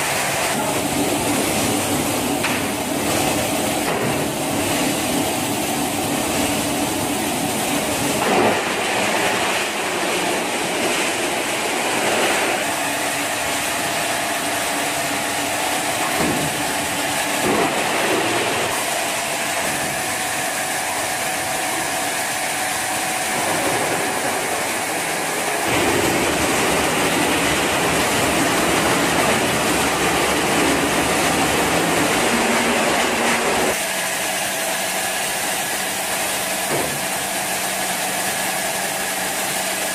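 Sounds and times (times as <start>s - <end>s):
industrial shredder crushing metal: 0.0s - 39.9s.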